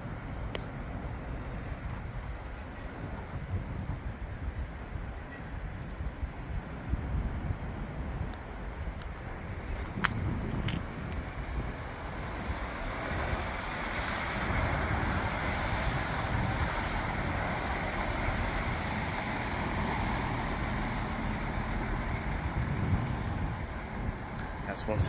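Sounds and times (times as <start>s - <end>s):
diesel train rumbling past: 0.0s - 25.0s.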